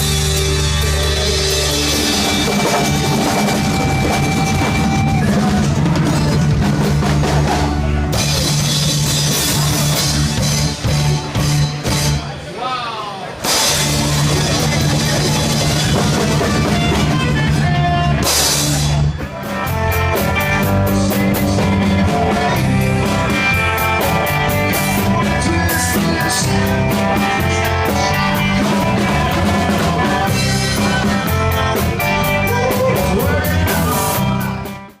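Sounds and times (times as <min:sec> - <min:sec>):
rock music with drums and guitar: 0:00.0 - 0:12.3, 0:13.4 - 0:35.0.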